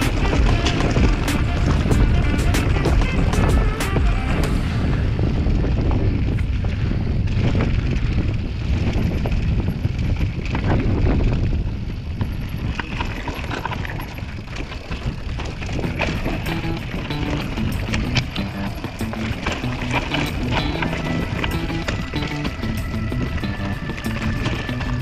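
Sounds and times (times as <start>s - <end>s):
tyres crunching over rocky trail: 0.0s - 4.6s, 5.6s - 25.0s
bike and stones clicking and rattling: 0.0s - 25.0s
wind buffeting microphone: 0.0s - 25.0s.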